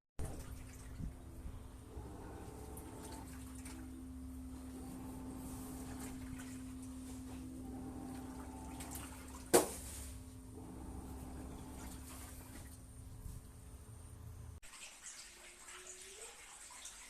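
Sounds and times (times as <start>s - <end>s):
faint water noise: 0.2s - 13.0s, 14.6s - 17.0s
washing machine humming: 0.2s - 17.0s.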